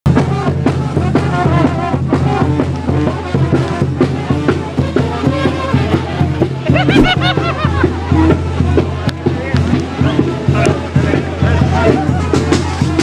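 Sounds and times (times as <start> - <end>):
music with drums and brass: 0.1 - 13.0.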